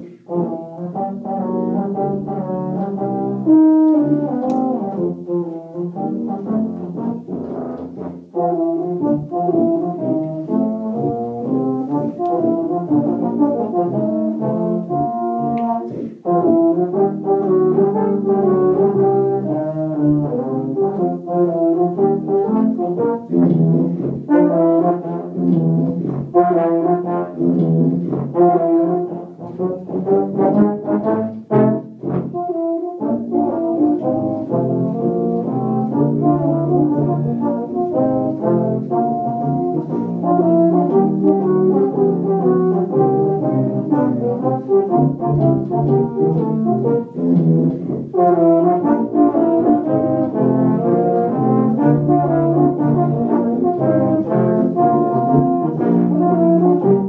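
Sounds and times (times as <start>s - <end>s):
tuba quartet playing: 0.0s - 57.0s.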